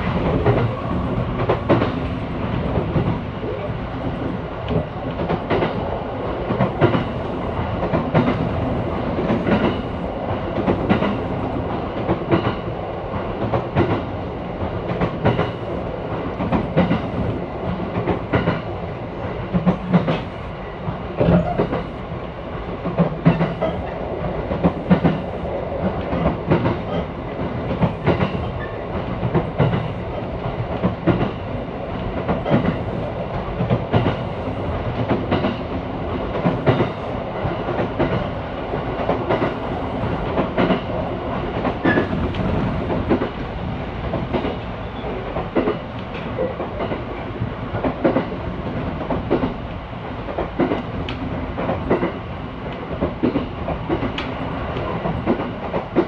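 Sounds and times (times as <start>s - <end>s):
irregular train clacks: 0.0s - 56.0s
rumble of wheels on rail: 0.0s - 56.0s.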